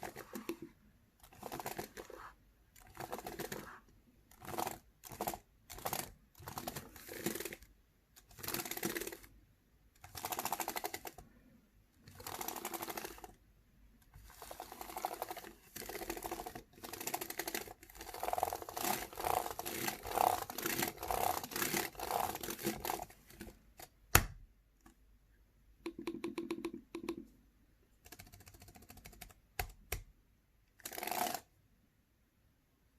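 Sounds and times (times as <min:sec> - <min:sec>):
keyboard typing: 0:00.0 - 0:09.3, 0:10.0 - 0:11.3, 0:12.1 - 0:13.4, 0:14.3 - 0:25.0, 0:25.8 - 0:27.4, 0:28.0 - 0:30.1, 0:30.8 - 0:31.5.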